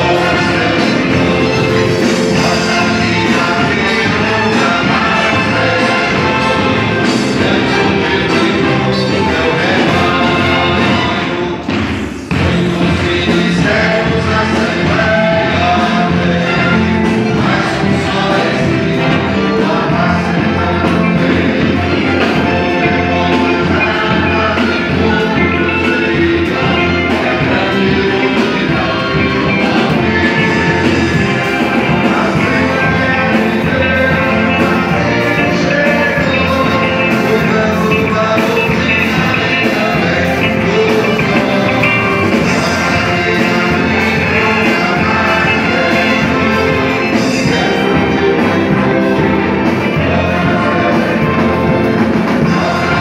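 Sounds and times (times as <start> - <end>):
song sung over a band: 0.0 - 53.0.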